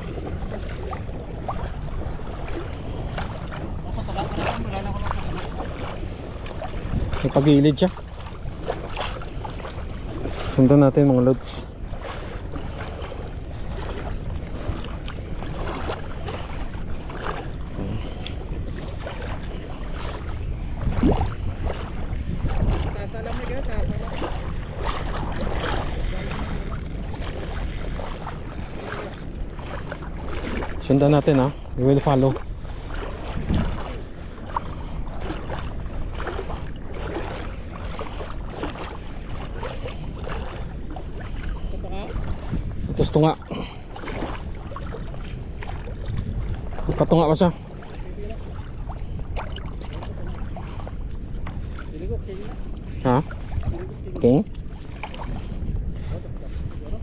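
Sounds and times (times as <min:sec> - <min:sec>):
seawater sloshing around legs: 0:00.0 - 0:57.0
shallow water lapping: 0:00.0 - 0:57.0
wind rumbling on microphone: 0:00.0 - 0:57.0.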